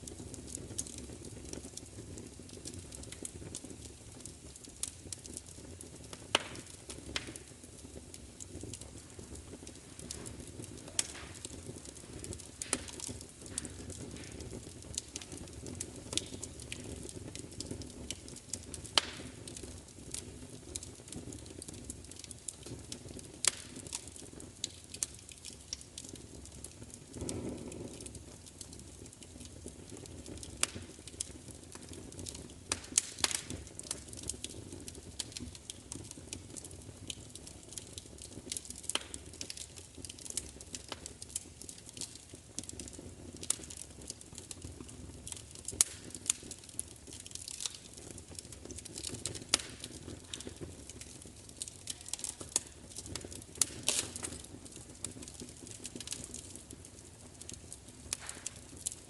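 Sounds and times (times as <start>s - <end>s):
soft whoosh of flame: 0.0s - 59.0s
wood fire crackling: 0.0s - 59.0s.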